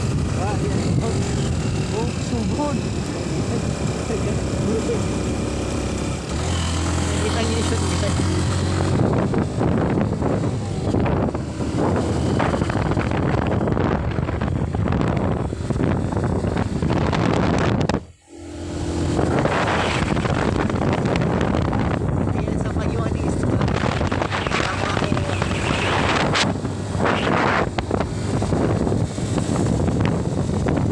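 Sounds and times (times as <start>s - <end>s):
vehicle running noise: 0.0s - 30.9s
wind buffeting microphone: 0.0s - 30.9s.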